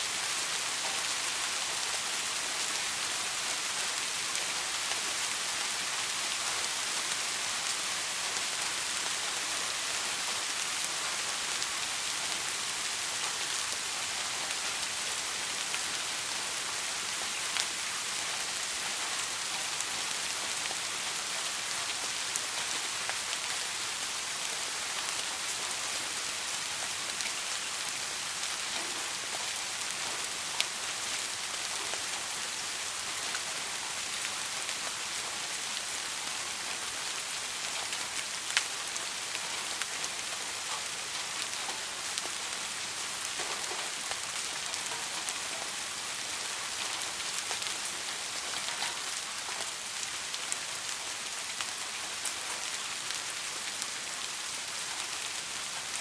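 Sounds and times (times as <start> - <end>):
soft rain hissing: 0.0 - 56.0.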